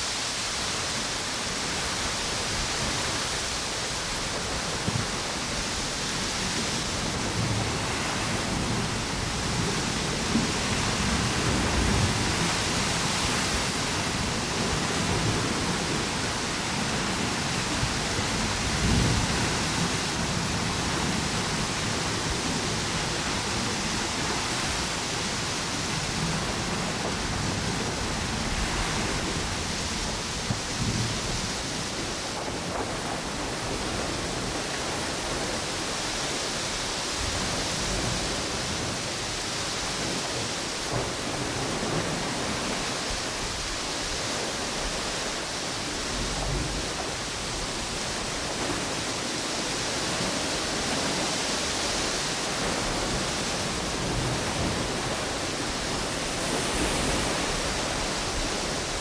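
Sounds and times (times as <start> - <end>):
low rumble of wind gusts: 0.0 - 59.0
ocean waves washing onto beach: 0.0 - 59.0
wind through palm trees: 0.0 - 59.0.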